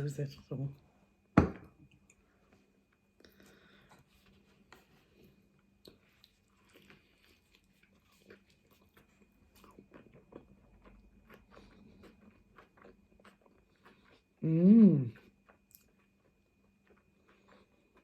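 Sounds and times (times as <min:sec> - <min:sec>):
person chewing food: 0:01.9 - 0:14.4, 0:15.0 - 0:18.0.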